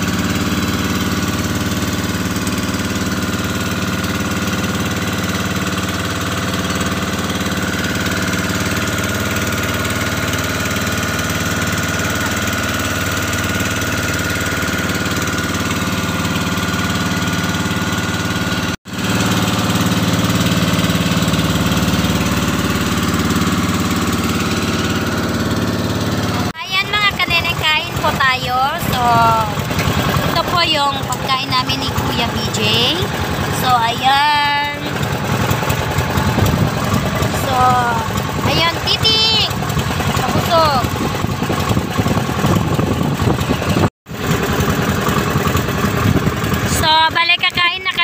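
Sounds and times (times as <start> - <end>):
boat engine running: 0.0 - 48.0.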